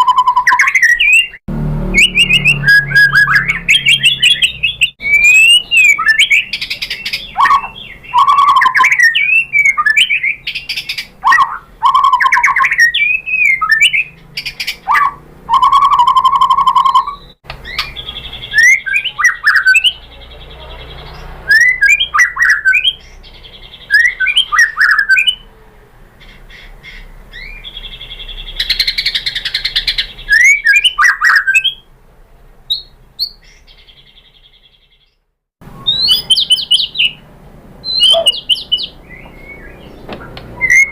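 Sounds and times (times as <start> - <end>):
bird whistled song: 0.0 - 25.5, 26.2 - 31.9, 32.7 - 37.2, 37.8 - 40.9.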